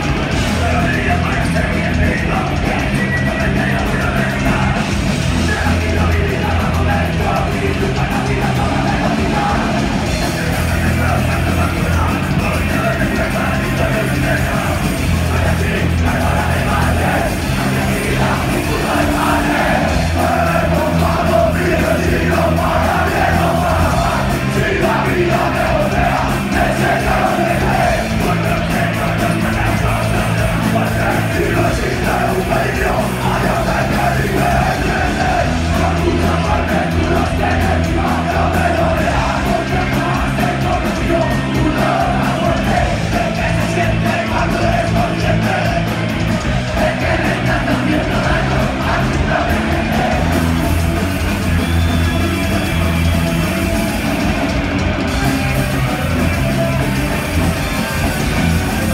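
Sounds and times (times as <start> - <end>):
vocals shouted into microphone: 0.0 - 54.7
bass: 0.0 - 58.9
distorted electric guitars: 0.0 - 58.9
drums: 0.0 - 58.9.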